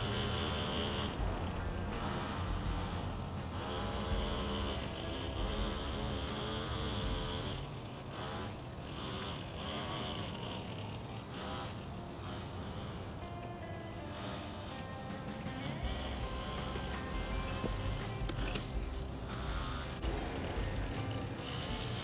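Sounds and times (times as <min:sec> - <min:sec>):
motor running: 0:00.0 - 0:22.0.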